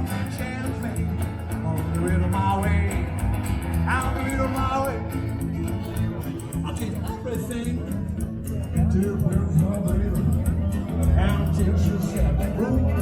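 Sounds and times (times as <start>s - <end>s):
band playing amplified music: 0.0s - 13.0s
steady bass line: 0.0s - 13.0s.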